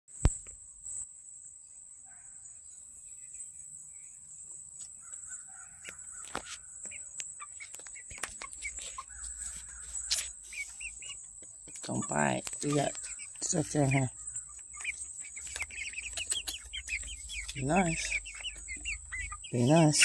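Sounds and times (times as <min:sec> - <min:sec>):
young chickens calling softly: 0:02.0 - 0:20.0.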